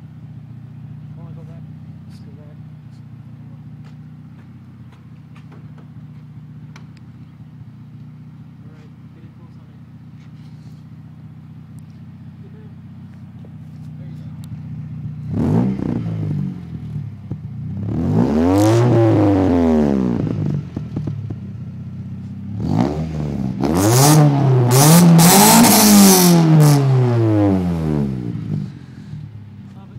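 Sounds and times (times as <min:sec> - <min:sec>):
car engine revving: 0:00.6 - 0:29.9.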